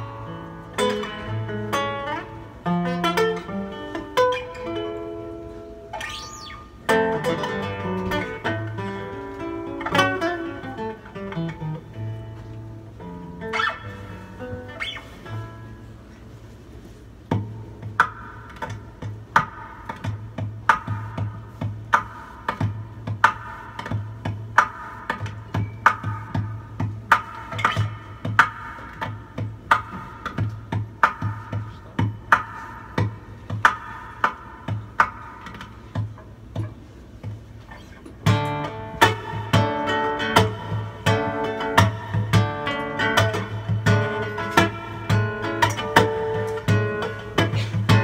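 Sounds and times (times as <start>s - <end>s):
guitar plucked chords and strumming: 0.0s - 48.0s.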